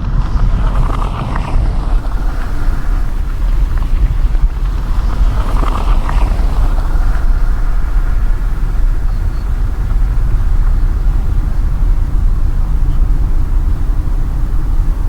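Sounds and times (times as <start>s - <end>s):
car engine and tyre rumble: 0.0s - 15.0s
higher hiss: 0.7s - 15.0s.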